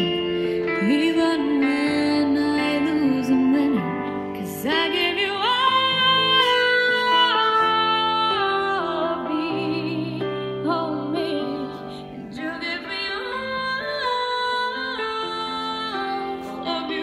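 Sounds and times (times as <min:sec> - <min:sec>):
person singing with vibrato: 0:00.0 - 0:17.0
piano chords: 0:00.0 - 0:17.0.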